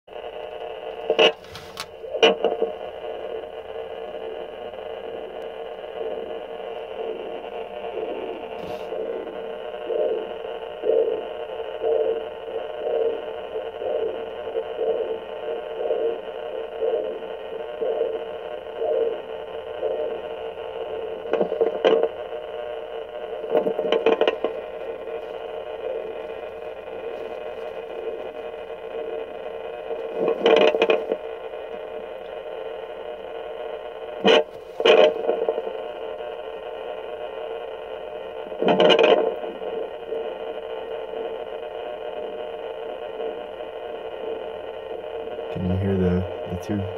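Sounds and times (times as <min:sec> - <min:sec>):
doppler heartbeat pulsing: 0:00.1 - 0:46.9
probe scraping crackles: 0:00.2 - 0:46.9.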